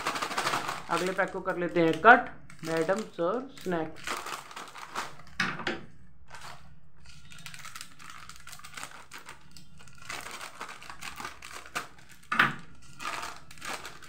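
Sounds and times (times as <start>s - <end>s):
scissors cutting packet: 0.0s - 5.4s, 6.3s - 14.0s
plastic snack packet crinkling: 0.0s - 5.5s, 6.2s - 14.0s.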